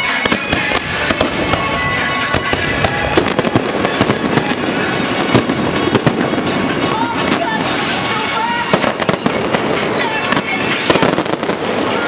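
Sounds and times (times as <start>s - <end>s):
pop music: 0.0s - 12.0s.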